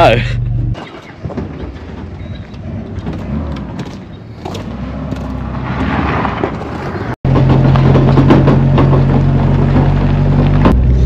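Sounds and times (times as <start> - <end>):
truck engine rumbling: 0.0 - 11.0
knocks and rattles: 0.8 - 10.9.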